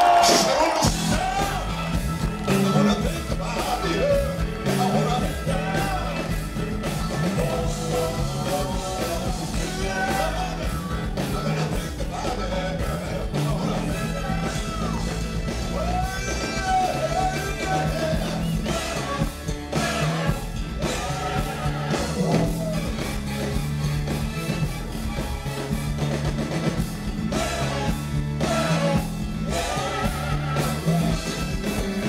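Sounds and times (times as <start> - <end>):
funk band playing live: 0.0 - 32.0
person singing: 0.3 - 23.1, 27.3 - 32.0
electric bass line: 0.8 - 32.0.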